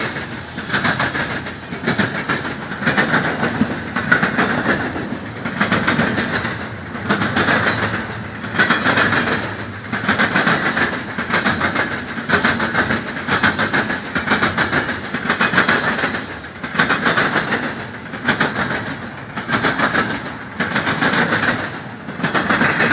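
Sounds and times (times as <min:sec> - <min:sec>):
freight train wheels clattering: 0:00.0 - 0:22.9.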